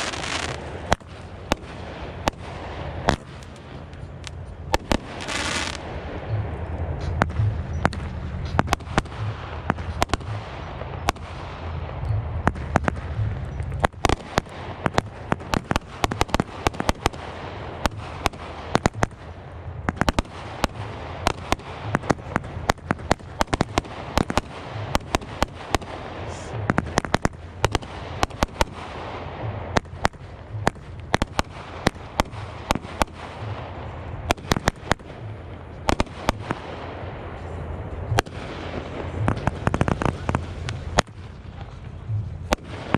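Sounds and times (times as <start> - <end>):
fireworks bangs and pops: 0.0 - 42.9
fireworks crackling: 0.0 - 42.9.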